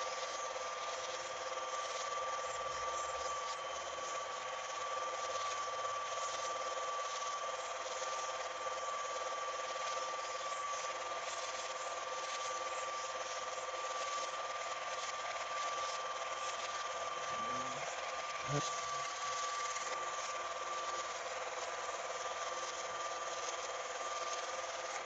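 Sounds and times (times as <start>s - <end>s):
film projector whirring: 0.0s - 25.0s.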